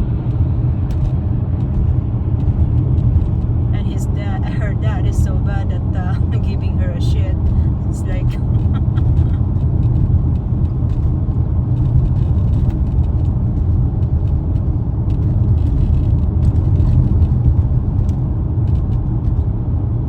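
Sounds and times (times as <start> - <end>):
car driving road rumble: 0.0 - 20.0.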